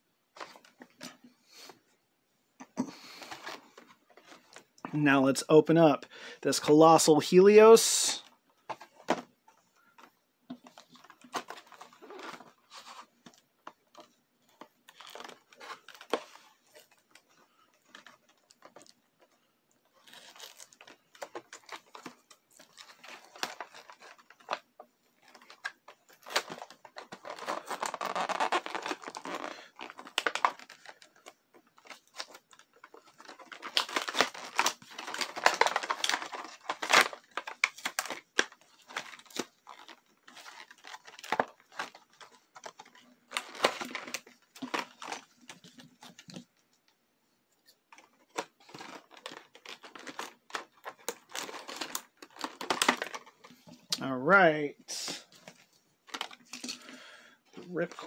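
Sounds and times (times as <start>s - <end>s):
toy packaging crinkling and tearing: 10.0s - 46.9s, 47.6s - 54.1s, 54.9s - 58.0s.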